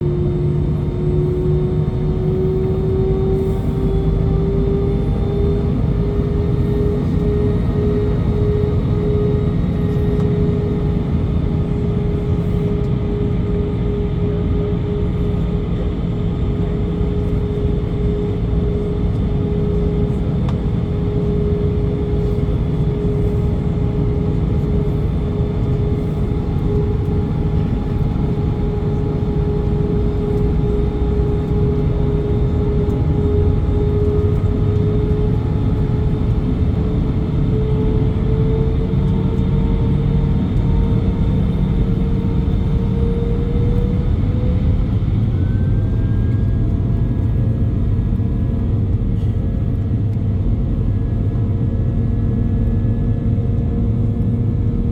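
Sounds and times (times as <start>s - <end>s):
jet engine rumble: 0.0s - 54.9s
jet engine whine: 0.0s - 54.9s.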